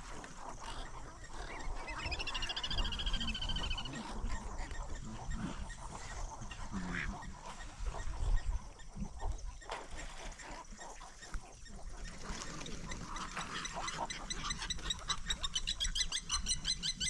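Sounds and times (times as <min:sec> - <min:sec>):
wild animal calls: 0:00.0 - 0:17.0.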